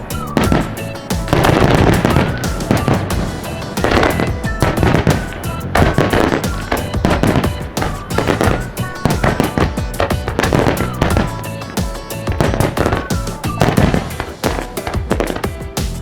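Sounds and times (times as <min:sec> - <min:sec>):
fireworks bangs and crackling: 0:00.0 - 0:16.0
music playing: 0:00.0 - 0:16.0.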